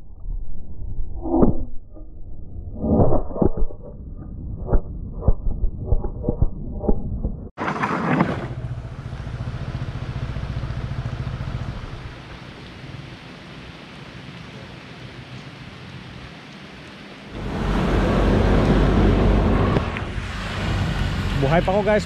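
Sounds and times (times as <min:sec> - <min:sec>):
low rumble with wind noise: 0:00.0 - 0:07.6, 0:08.3 - 0:22.0.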